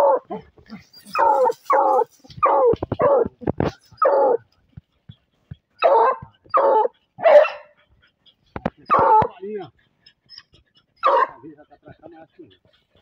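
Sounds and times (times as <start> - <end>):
hounds barking: 0.0 - 4.5, 5.7 - 13.0.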